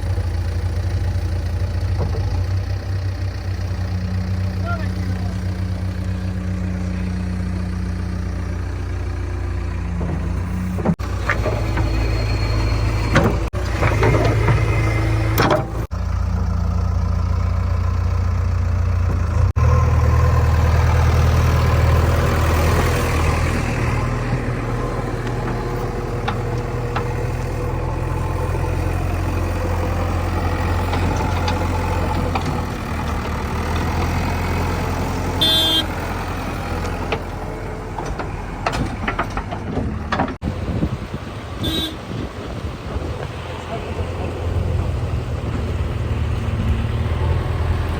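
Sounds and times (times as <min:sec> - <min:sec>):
heavy diesel engines droning: 0:00.0 - 0:47.9.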